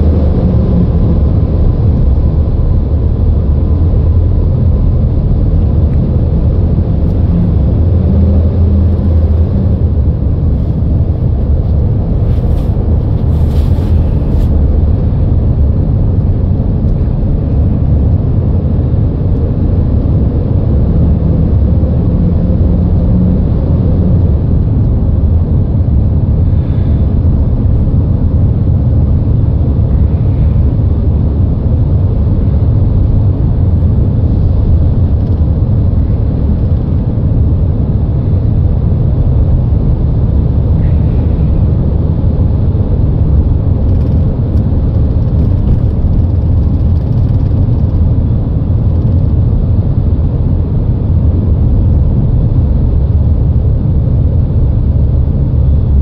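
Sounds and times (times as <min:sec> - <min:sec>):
tunnel traffic rumble: 0:00.0 - 0:56.0.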